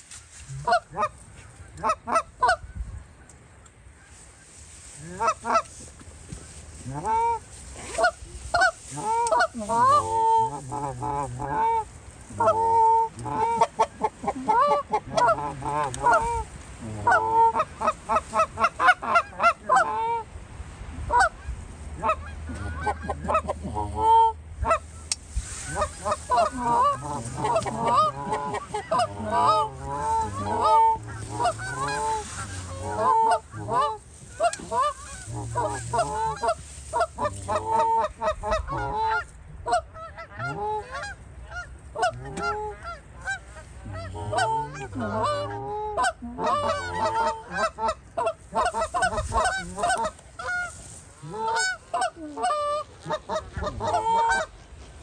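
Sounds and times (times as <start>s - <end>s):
geese honking: 4.0s - 5.8s, 6.8s - 20.3s, 21.1s - 54.8s.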